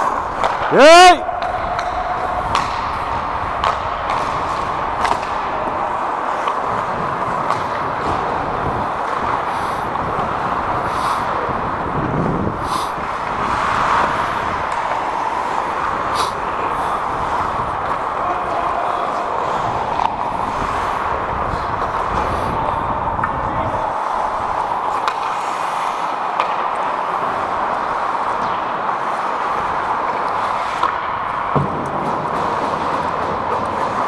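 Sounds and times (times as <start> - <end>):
skate blades scraping ice: 0.0 - 34.0
stick and puck clacks: 0.0 - 34.0.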